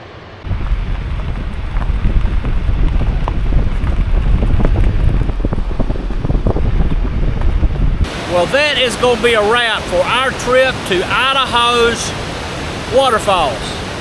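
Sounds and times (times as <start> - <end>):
wind buffeting microphone: 0.4 - 14.0.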